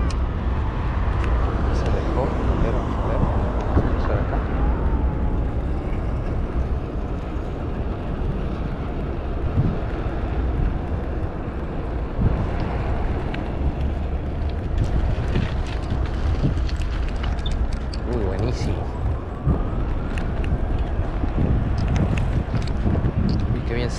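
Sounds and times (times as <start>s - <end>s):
wind rumbling on microphone: 0.0s - 23.9s.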